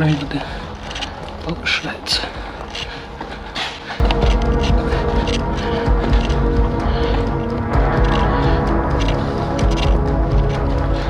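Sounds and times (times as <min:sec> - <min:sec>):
dark tense background music: 0:00.0 - 0:11.0.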